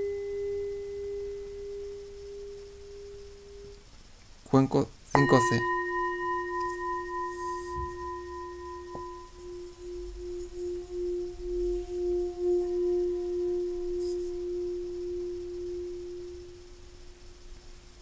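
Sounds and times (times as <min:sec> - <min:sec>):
singing bowl ringing: 0:00.0 - 0:03.7, 0:05.1 - 0:18.0.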